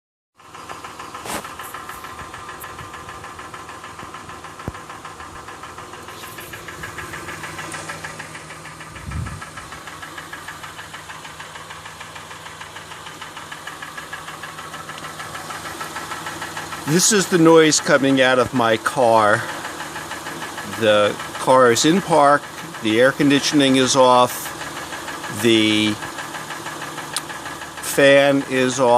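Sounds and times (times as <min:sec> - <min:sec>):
car engine idling: 0:00.4 - 0:28.9
rapid even engine ticking: 0:00.4 - 0:28.9.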